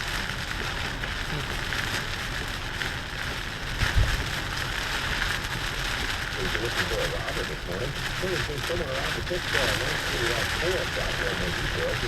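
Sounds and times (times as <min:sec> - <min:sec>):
heavy rain drumming on car: 0:00.0 - 0:12.0
road noise: 0:00.0 - 0:12.0.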